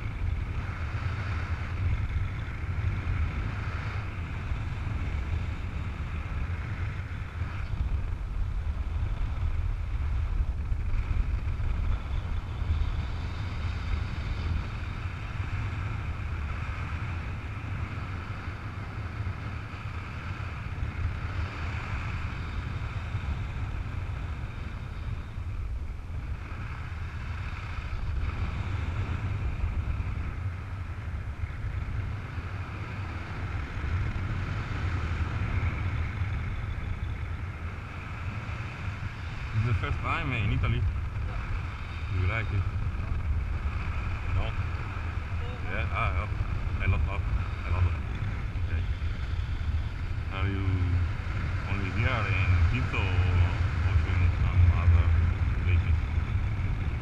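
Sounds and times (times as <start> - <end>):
high steady whine: 0.0 - 57.0
wind buffeting microphone: 0.0 - 57.0.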